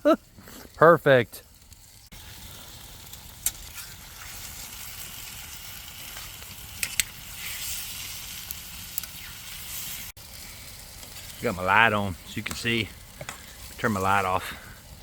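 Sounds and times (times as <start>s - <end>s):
chicken sizzling in a pan: 0.1s - 15.0s.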